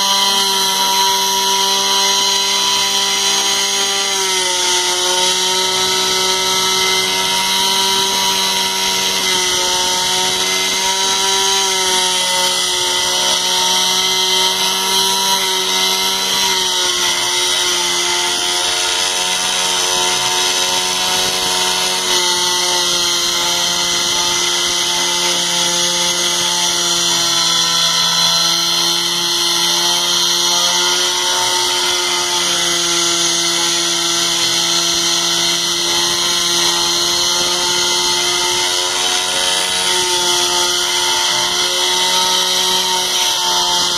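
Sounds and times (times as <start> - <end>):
router motor whine: 0.0 - 43.9.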